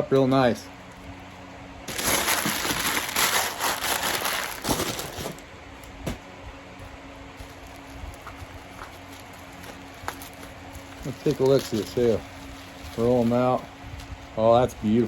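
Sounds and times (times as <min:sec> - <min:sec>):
wrapping rustling and crinkling: 0:00.9 - 0:15.0.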